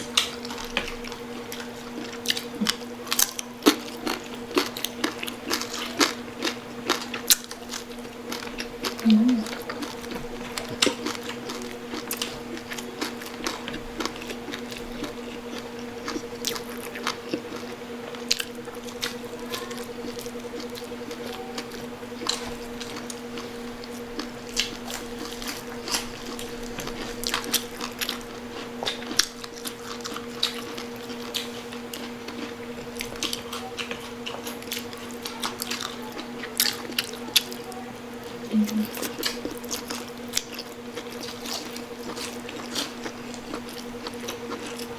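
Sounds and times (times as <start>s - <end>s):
crunching and chewing crispy pork skin: 0.0s - 44.9s
steady low hum: 0.0s - 44.9s.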